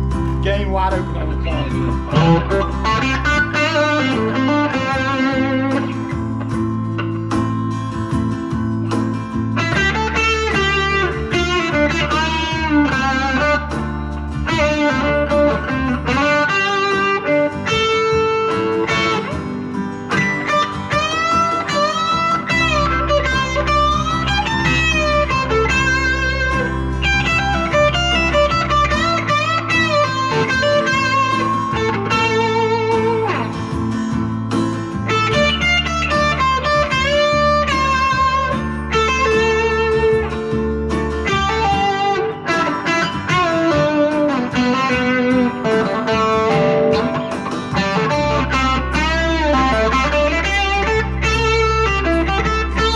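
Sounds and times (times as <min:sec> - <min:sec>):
backing track with bass: 0:00.0 - 0:52.9
overdriven electric guitar lead: 0:00.0 - 0:52.9.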